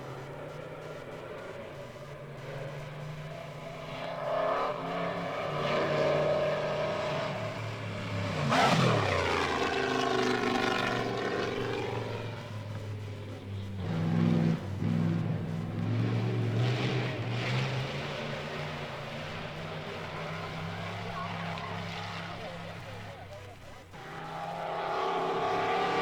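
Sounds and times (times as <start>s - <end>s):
racing car engine passing by: 0.0s - 26.0s.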